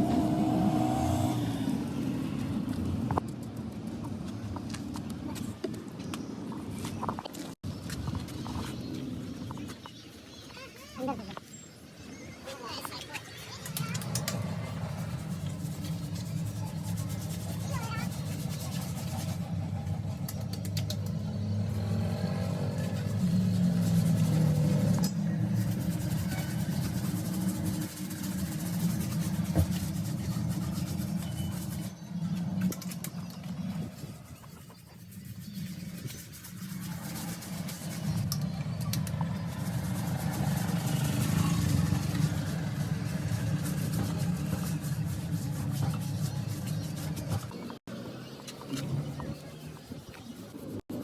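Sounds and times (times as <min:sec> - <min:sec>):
engine rumbling: 0:00.0 - 0:05.6, 0:12.2 - 0:51.0.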